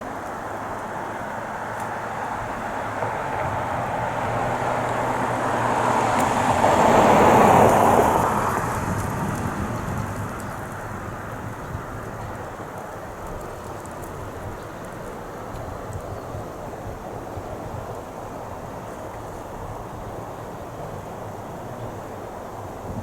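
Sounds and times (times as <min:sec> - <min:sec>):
train wheels on rails: 0:00.2 - 0:23.0.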